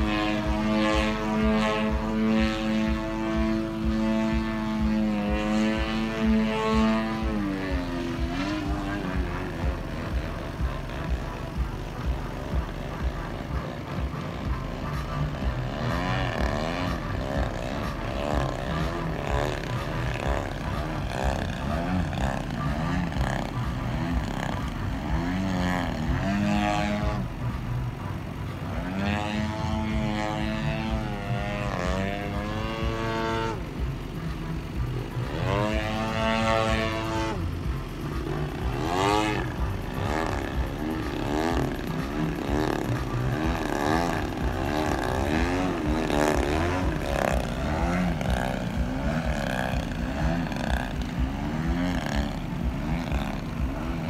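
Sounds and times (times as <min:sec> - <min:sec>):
model plane motor buzzing: 0:00.0 - 0:54.0.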